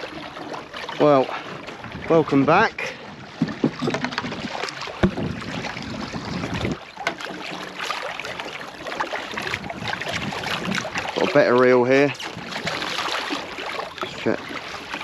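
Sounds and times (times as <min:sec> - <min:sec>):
knocks and clatter on a boat: 0:00.0 - 0:15.0
water noise: 0:00.0 - 0:15.0
wind: 0:00.0 - 0:15.0.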